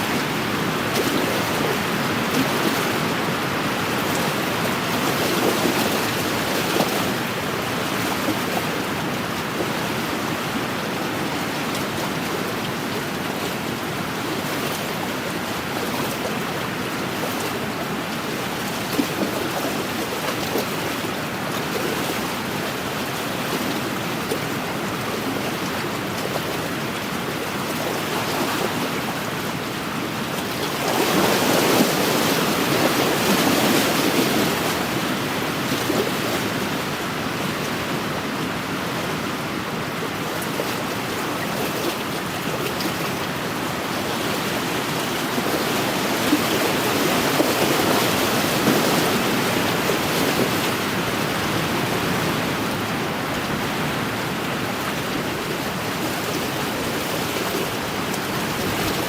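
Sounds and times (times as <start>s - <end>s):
waves washing against shore: 0.0s - 59.0s
wind: 0.0s - 59.0s.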